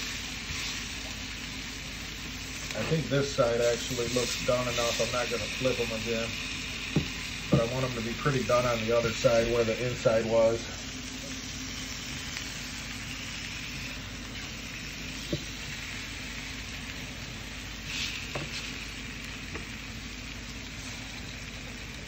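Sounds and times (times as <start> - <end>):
banana peel sizzling on griddle: 0.0 - 22.0.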